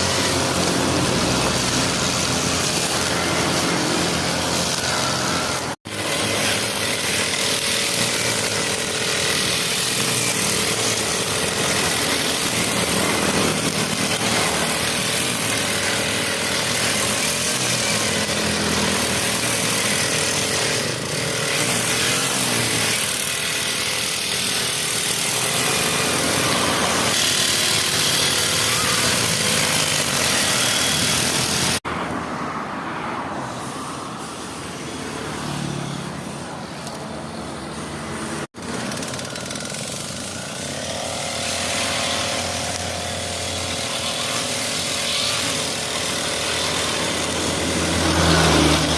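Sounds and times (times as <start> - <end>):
brush cutter engine running: 0.0 - 31.8, 38.6 - 48.9.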